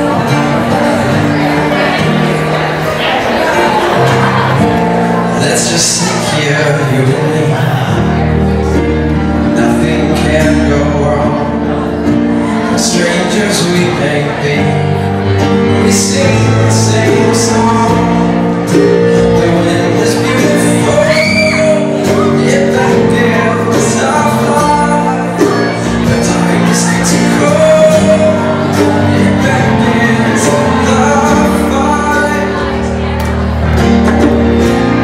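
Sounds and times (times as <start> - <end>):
acoustic guitars: 0.0 - 35.0
keyboard: 0.0 - 35.0
person singing: 0.0 - 35.0.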